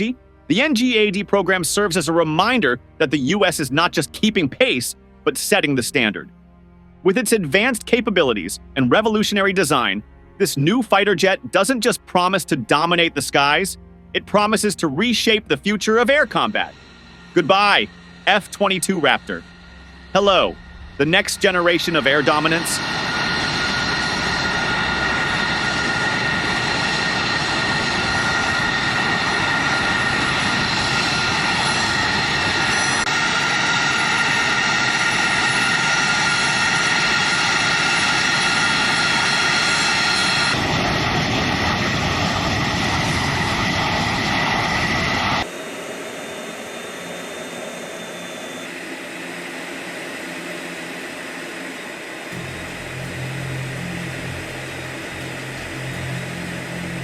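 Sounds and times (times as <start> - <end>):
jet engine running: 7.0 - 57.0.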